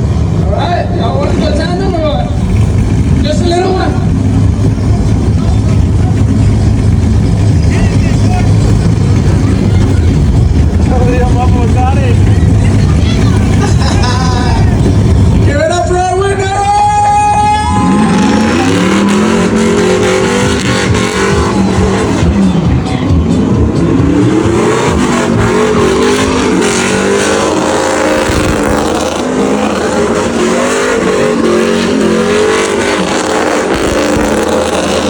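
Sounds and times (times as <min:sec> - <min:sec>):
truck engine revving hard: 0:00.0 - 0:35.0.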